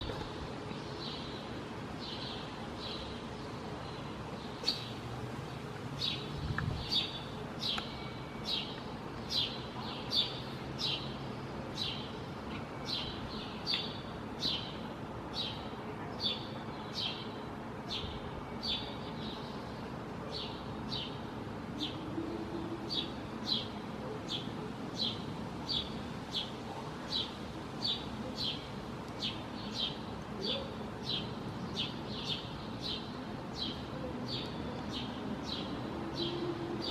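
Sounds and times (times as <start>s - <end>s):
songbird chirping: 0.0s - 36.9s
steady background hiss: 0.0s - 36.9s.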